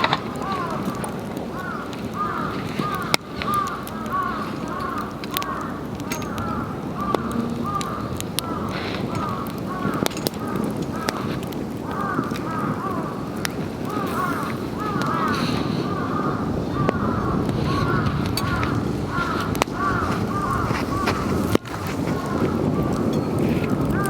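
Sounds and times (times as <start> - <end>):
campfire crackling and popping: 0.0 - 24.0
flock of birds calling: 0.0 - 24.0.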